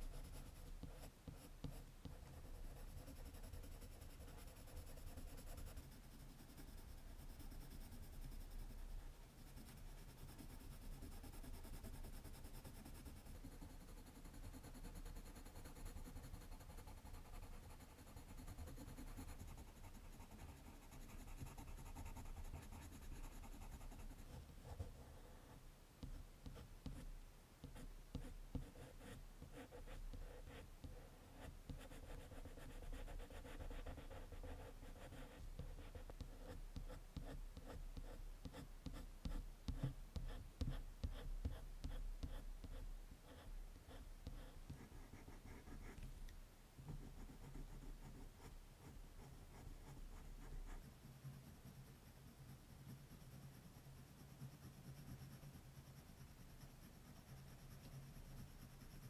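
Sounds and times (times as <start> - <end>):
colored pencil scratching on paper: 0.0 - 46.1, 46.9 - 59.0.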